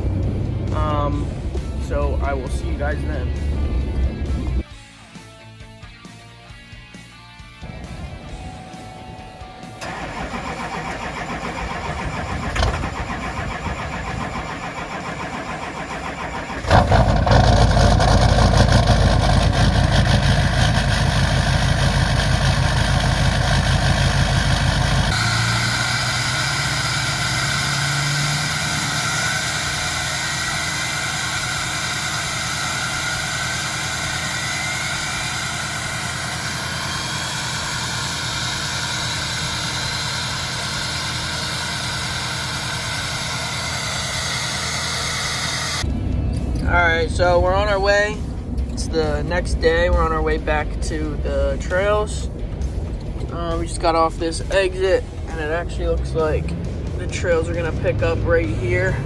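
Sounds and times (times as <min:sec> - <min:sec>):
vehicle engine starting and running: 0:00.0 - 0:04.7, 0:07.6 - 0:59.0
rising whines: 0:07.6 - 0:59.0.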